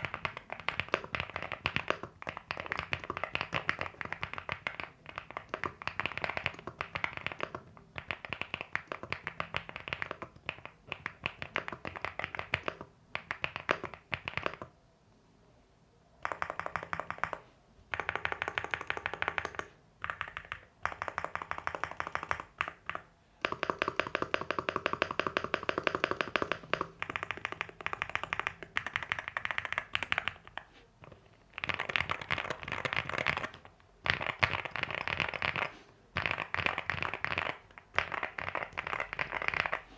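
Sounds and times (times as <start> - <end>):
mechanical keyboard typing: 0.0 - 14.8, 16.2 - 39.9.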